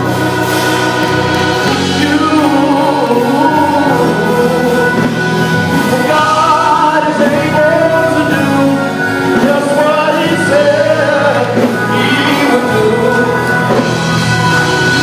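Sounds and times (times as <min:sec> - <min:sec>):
instrumental accompaniment: 0:00.0 - 0:15.0
voices singing gospel: 0:00.0 - 0:15.0.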